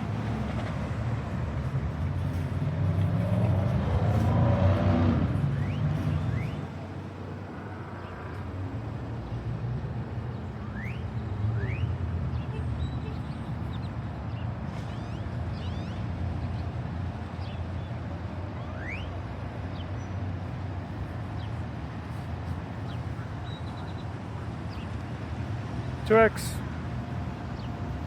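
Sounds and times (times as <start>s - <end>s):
low traffic rumble: 0.0s - 28.0s.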